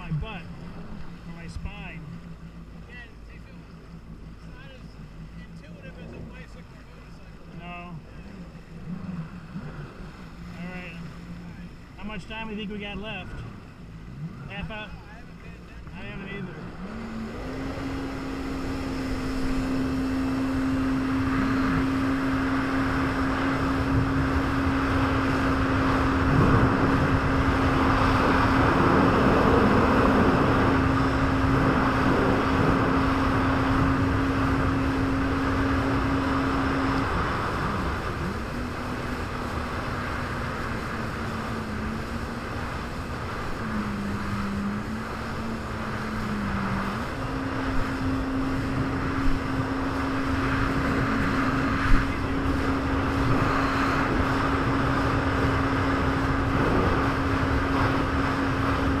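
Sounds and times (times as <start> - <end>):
jet ski engine running: 0.0 - 59.0
water rushing: 0.0 - 59.0
wind: 0.0 - 59.0.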